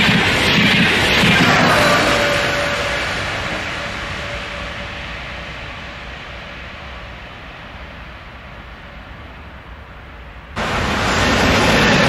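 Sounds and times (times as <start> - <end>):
electric train rumble: 0.0 - 12.0
passing train rush: 0.0 - 12.0.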